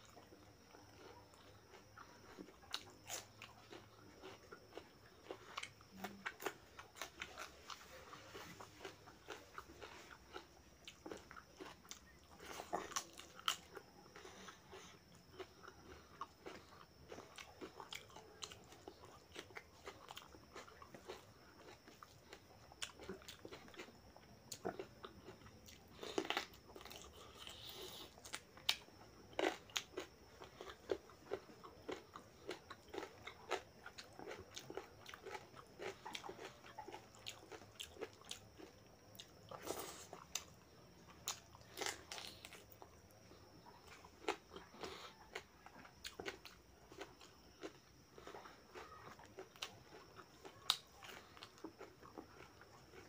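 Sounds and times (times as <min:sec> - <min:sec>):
person chewing wetly: 0:00.0 - 0:53.0
crunchy bite: 0:00.1 - 0:53.0.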